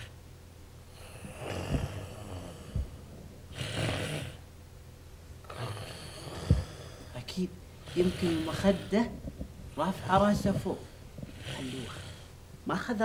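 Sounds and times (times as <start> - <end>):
man snoring: 0.9 - 4.4, 5.4 - 12.4.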